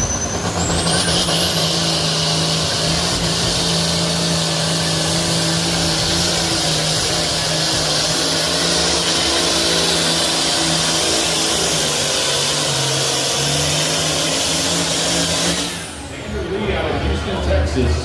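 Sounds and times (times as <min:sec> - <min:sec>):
tractor engine at high revs: 0:00.0 - 0:18.0.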